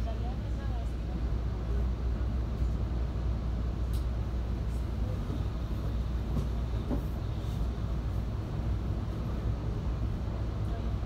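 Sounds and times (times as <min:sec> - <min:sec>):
train car rumble: 0:00.0 - 0:11.0.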